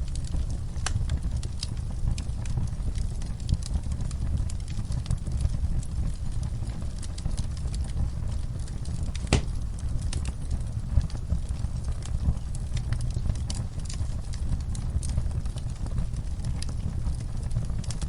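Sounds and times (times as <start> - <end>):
fire popping and snapping: 0.0 - 18.0
wood fire crackling: 0.0 - 18.0.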